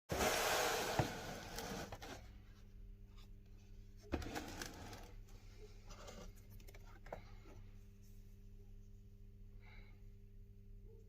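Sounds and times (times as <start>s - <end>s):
faint steady hum: 0.2s - 11.0s.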